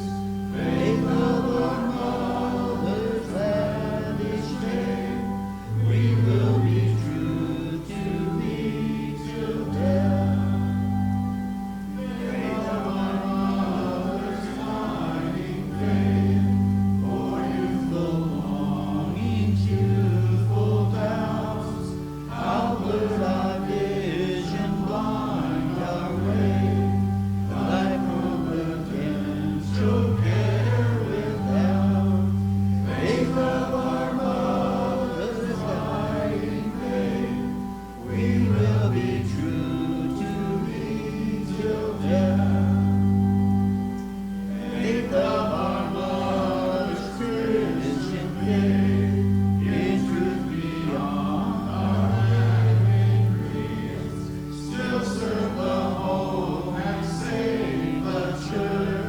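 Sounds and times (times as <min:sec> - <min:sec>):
group singing a hymn: 0:00.0 - 0:59.0
keyboard bass notes: 0:00.0 - 0:59.0.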